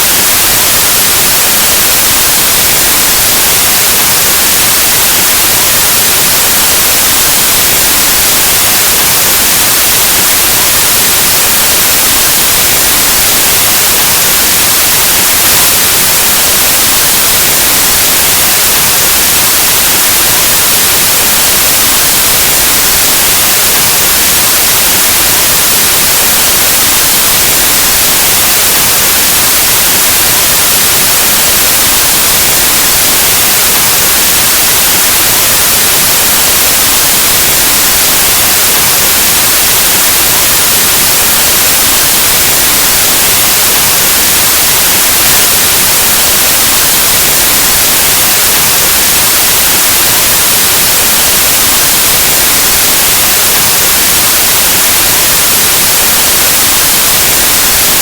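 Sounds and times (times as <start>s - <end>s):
white noise static hiss: 0.0s - 58.0s.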